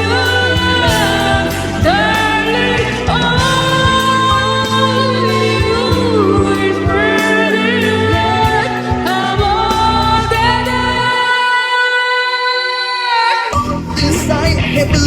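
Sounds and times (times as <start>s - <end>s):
backing music: 0.0s - 11.9s, 13.2s - 15.0s
person singing: 0.0s - 15.0s.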